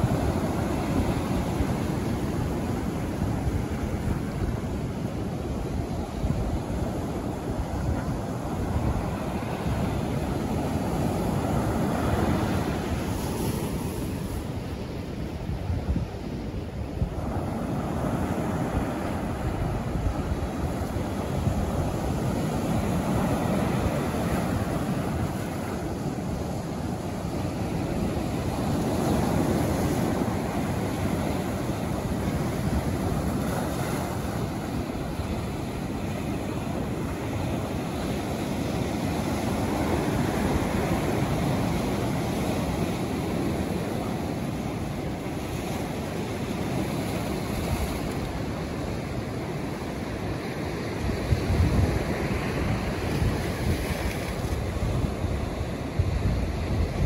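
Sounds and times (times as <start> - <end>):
ocean waves breaking on beach: 0.0 - 57.0
wind buffeting microphone: 0.0 - 57.0.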